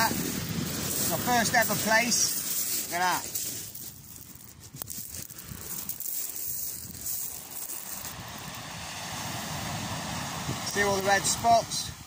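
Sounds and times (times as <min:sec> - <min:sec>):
surf breaking on shore: 0:00.0 - 0:03.5, 0:05.2 - 0:12.0
wind rumbling on microphone: 0:00.0 - 0:12.0.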